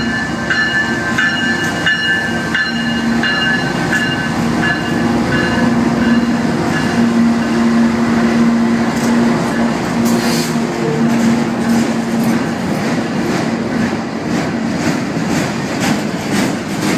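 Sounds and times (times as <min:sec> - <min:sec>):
train rumbling past: 0:00.0 - 0:16.9.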